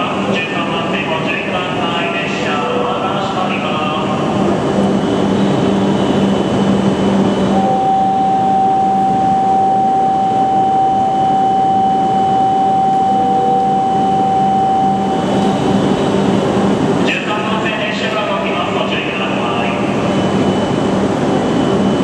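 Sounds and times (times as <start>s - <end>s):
steady whine: 0.0s - 22.0s
train rushing past: 0.0s - 22.0s.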